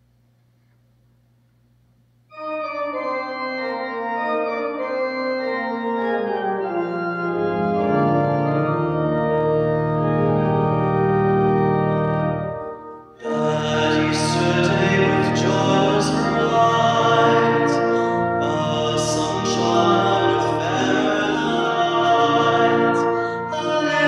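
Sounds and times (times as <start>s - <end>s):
church organ chords: 2.3s - 24.0s.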